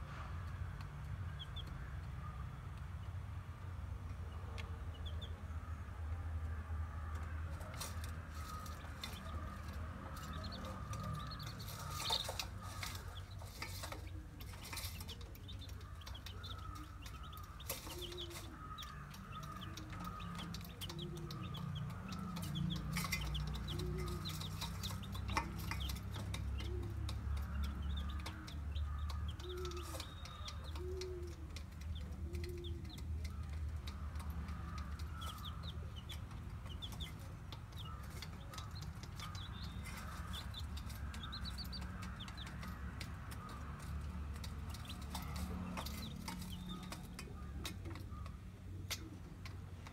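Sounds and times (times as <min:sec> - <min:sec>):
chicks cheeping: 0:00.8 - 0:03.2, 0:04.3 - 0:05.6, 0:07.1 - 0:49.9
low clucks: 0:08.6 - 0:49.9.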